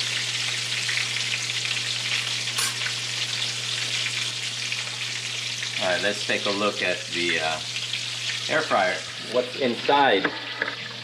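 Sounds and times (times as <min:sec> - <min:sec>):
clam pieces sizzling in hot oil: 0:00.0 - 0:11.0.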